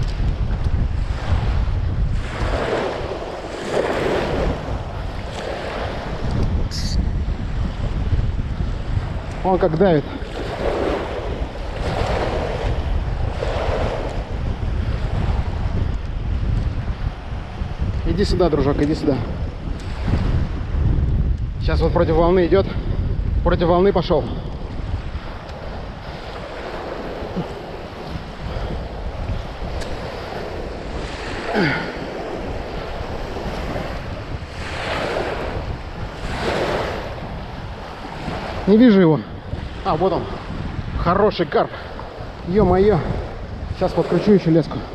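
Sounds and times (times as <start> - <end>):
waves washing and splashing: 0.0 - 44.9
wind rumbling on microphone: 0.0 - 44.9.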